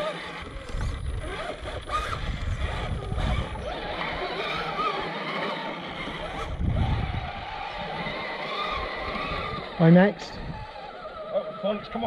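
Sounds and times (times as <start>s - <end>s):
toy truck motor whine: 0.0s - 12.0s.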